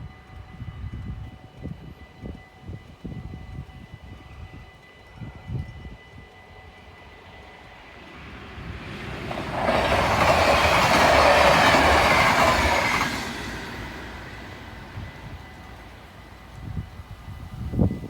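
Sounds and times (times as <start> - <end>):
train wheels rushing on rail: 0.0 - 18.0.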